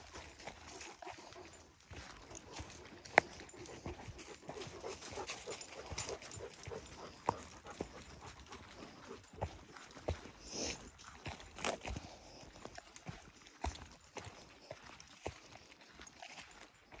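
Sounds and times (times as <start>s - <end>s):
footsteps on leafy dirt trail: 0.0s - 17.0s.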